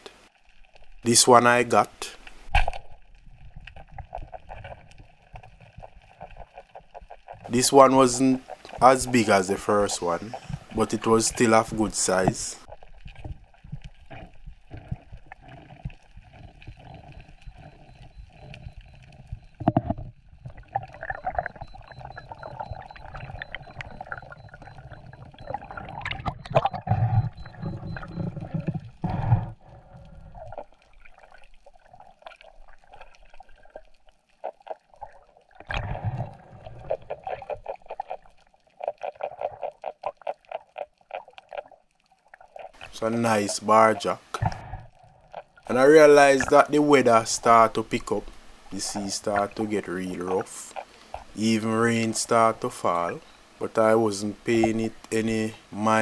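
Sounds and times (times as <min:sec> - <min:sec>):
water sloshing underwater: 0:00.0 - 0:56.0.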